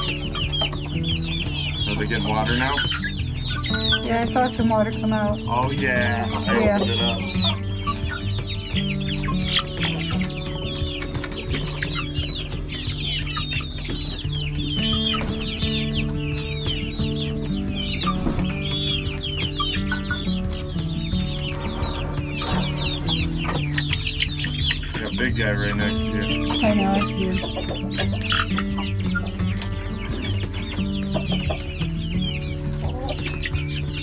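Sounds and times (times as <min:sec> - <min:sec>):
background music with held notes: 0:00.0 - 0:34.0
chickens clucking and chirping: 0:00.0 - 0:34.0.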